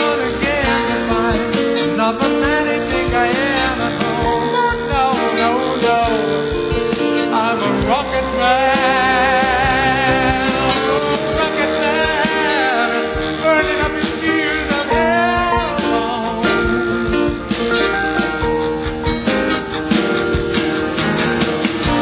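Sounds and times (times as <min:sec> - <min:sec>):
guitar chords: 0:00.0 - 0:22.0
lead melody with vibrato: 0:00.0 - 0:22.0
rhythm section: 0:00.0 - 0:22.0.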